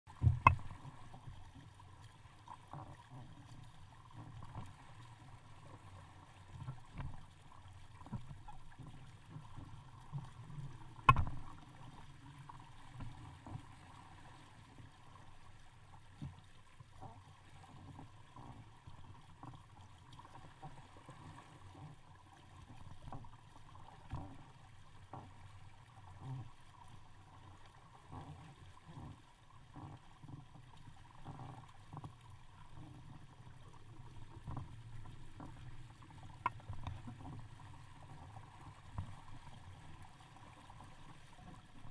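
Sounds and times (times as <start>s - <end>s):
water lapping against boat hull: 0.1s - 41.9s.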